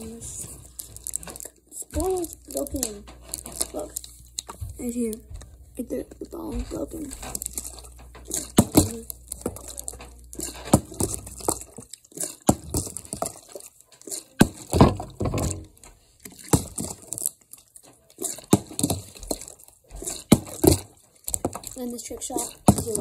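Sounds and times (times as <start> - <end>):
plastic bottle crinkling: 0.0 - 23.0.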